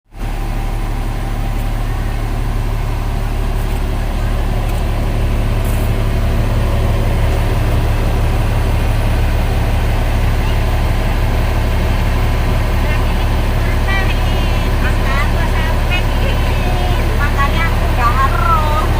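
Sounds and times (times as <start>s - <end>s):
diesel engine running: 0.1s - 18.9s.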